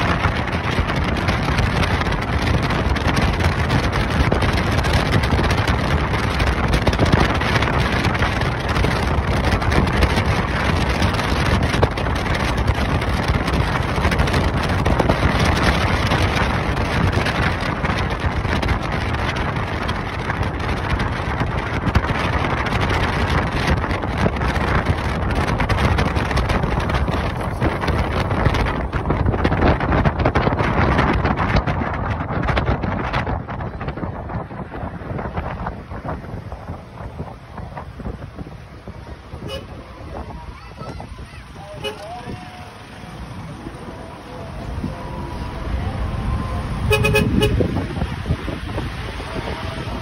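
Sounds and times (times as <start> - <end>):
car road and engine noise: 0.0 - 50.0
wind noise on microphone: 0.0 - 50.0.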